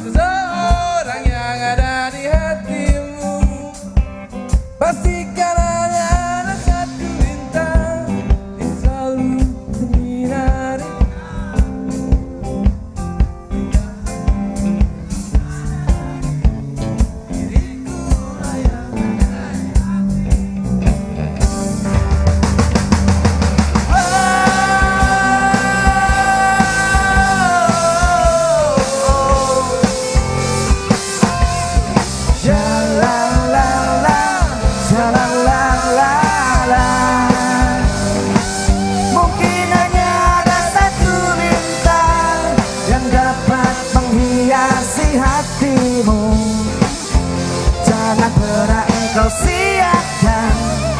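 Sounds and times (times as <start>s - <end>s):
live rock band playing: 0.0s - 50.9s
lead melody line: 4.0s - 50.9s.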